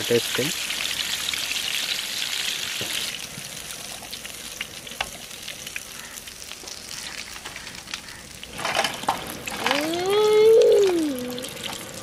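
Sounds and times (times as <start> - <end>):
crackles and pops of frying: 0.0 - 12.0
oil sizzling while deep-frying: 0.0 - 12.0.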